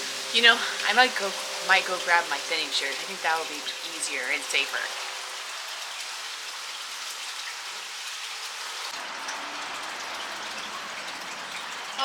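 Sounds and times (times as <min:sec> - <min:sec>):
rain hissing on a surface: 0:00.0 - 0:12.0.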